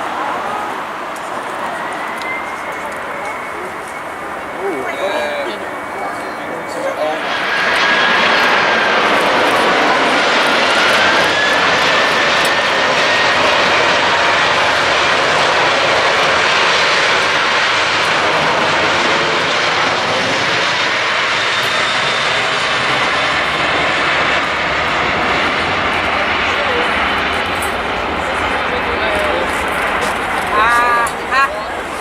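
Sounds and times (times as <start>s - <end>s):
faint engine whine: 0.0s - 32.0s
jet airliner engines roaring: 0.0s - 32.0s.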